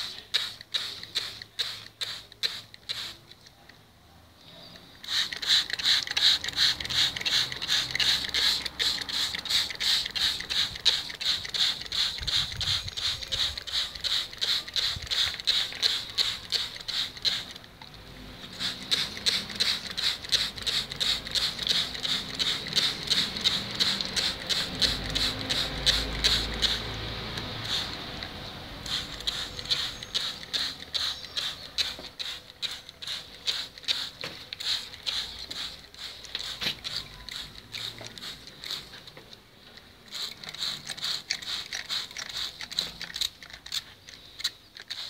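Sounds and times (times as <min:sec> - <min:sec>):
spray bottle hissing: 0:00.0 - 0:03.6, 0:04.8 - 0:39.2, 0:40.0 - 0:45.0.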